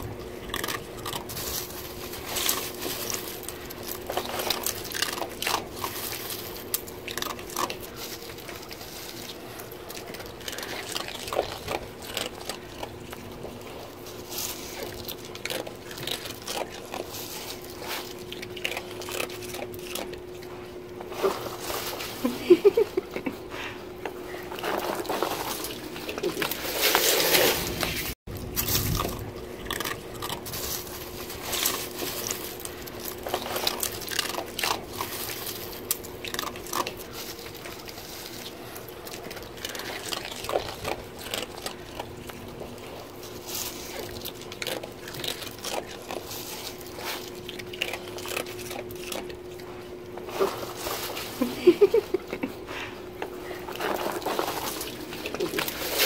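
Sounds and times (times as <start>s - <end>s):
otters crunching sea urchins: 0.0s - 56.0s.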